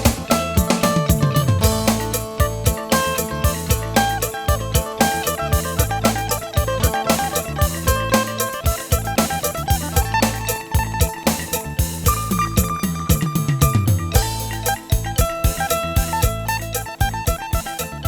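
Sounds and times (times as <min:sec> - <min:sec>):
drum beat: 0:00.0 - 0:18.0
held bass notes: 0:00.0 - 0:18.0
plucked string melody: 0:00.0 - 0:18.0.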